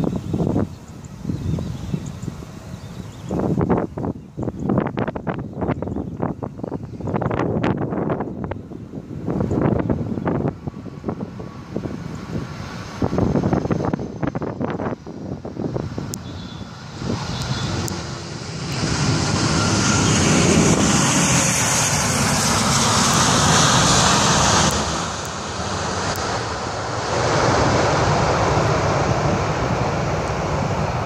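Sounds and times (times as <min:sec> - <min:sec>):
jet engines rushing: 0:00.0 - 0:31.0.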